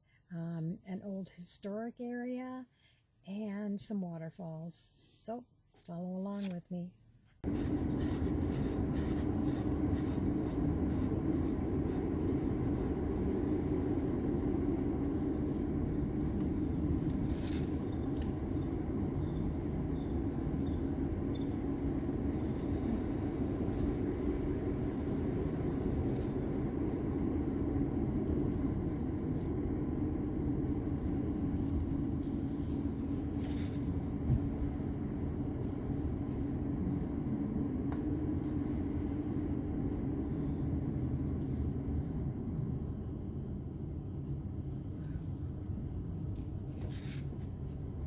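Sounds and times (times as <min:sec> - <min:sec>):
car interior road and engine noise: 0:07.4 - 0:47.6.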